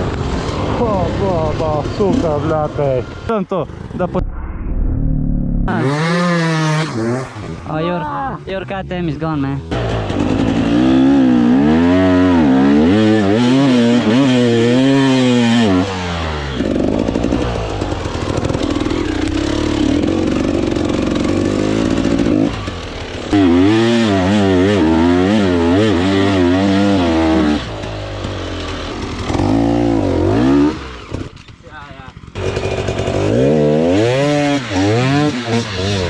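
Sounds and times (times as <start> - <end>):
dirt bike engine revving: 0.0 - 4.2, 5.6 - 36.0.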